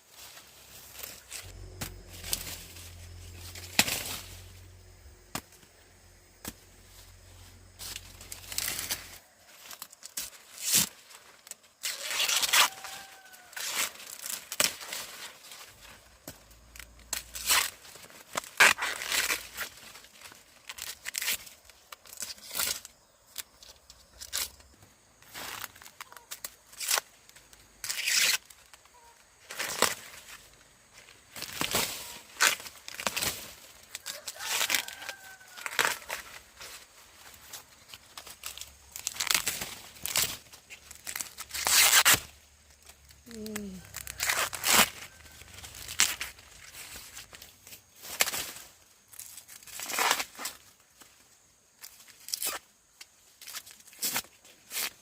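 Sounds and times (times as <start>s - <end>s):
dry corn leaves tearing: 0.1s - 51.2s, 51.8s - 55.0s.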